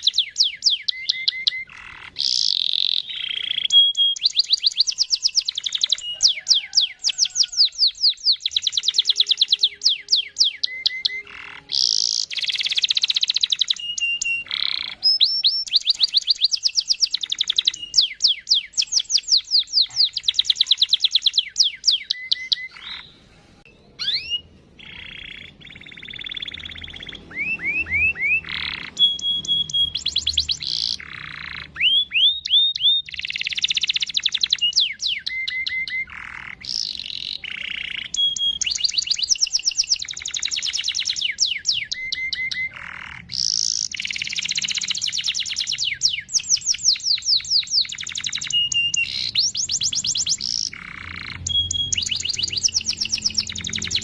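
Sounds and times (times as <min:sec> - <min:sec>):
canary singing trills and chirps: 0:00.0 - 0:54.0.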